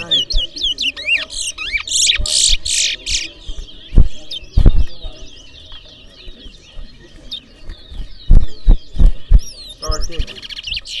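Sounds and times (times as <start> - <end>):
finch singing: 0.0 - 11.0.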